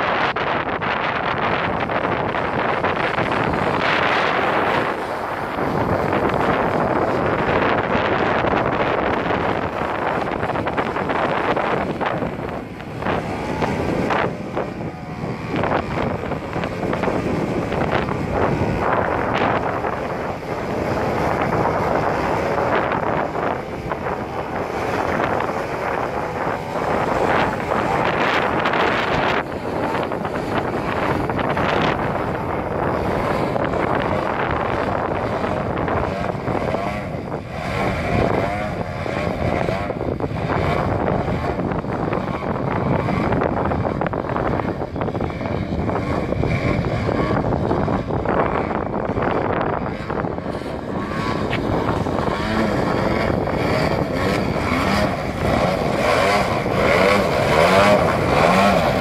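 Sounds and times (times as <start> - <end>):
model plane motor droning: 0.0 - 59.0
wind buffeting microphone: 0.0 - 59.0.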